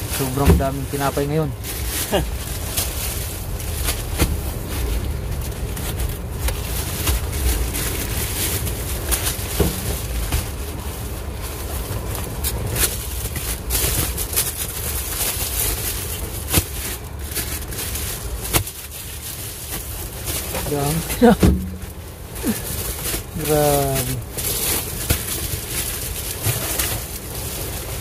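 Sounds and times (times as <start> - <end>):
plastic bag crackling: 0.0 - 28.0.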